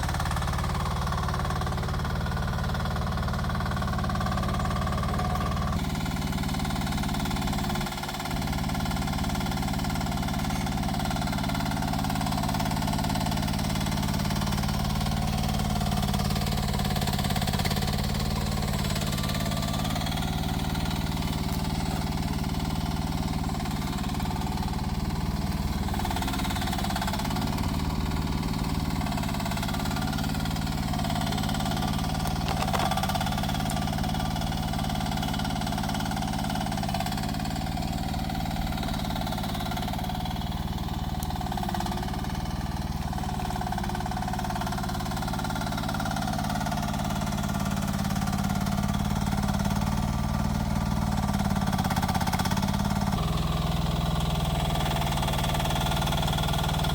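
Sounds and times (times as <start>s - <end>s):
mini excavator engine running: 0.0s - 56.9s.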